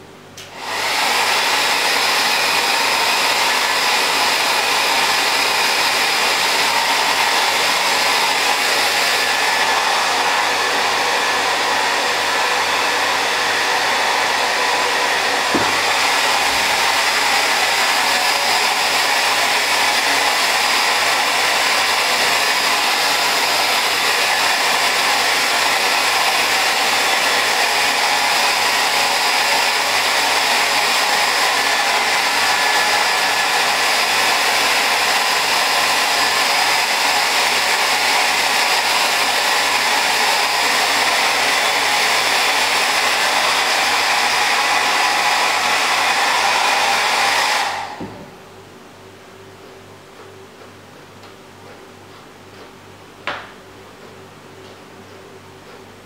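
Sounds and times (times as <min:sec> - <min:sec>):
hair dryer blowing air: 0:00.0 - 0:48.4.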